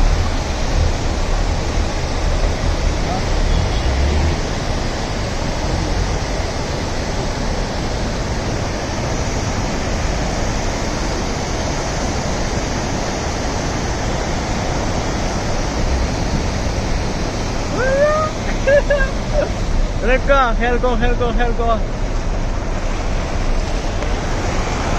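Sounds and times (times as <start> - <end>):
stream rushing over weir: 0.0 - 24.9.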